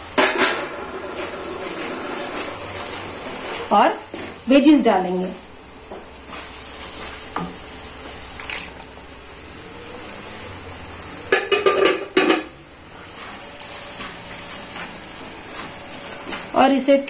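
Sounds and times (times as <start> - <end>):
faint sizzle: 0.0 - 17.0.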